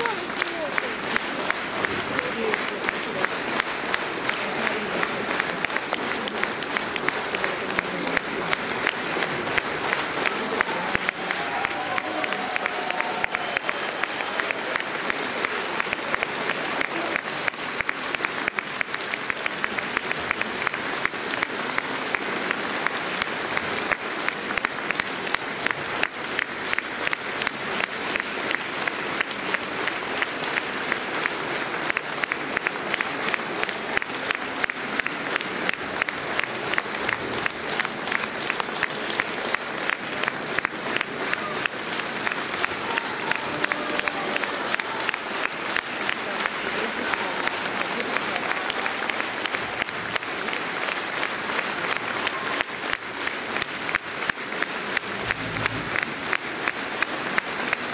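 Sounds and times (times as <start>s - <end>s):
audience applauding: 0.0s - 57.9s.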